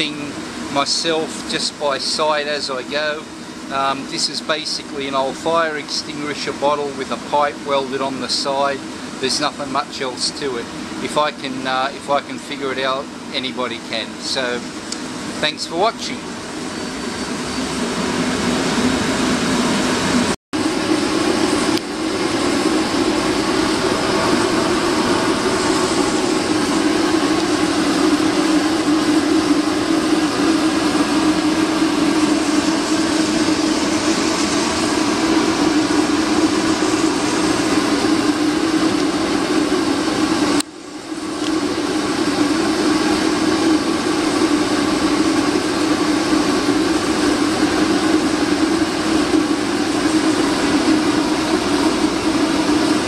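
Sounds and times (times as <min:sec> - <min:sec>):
oil burner roaring with low hum: 0:00.0 - 0:53.0.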